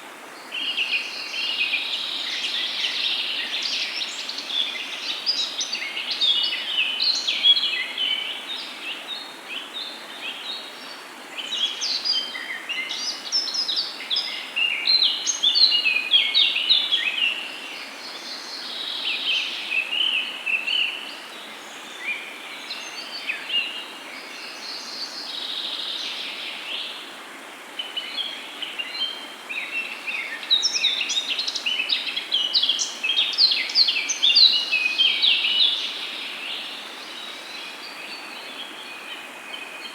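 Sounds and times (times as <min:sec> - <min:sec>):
faint outdoor background hiss: 0:00.0 - 0:39.9.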